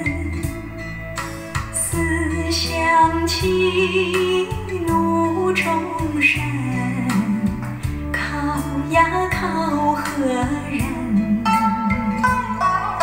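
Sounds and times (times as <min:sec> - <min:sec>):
song from loudspeakers: 0:00.0 - 0:13.0.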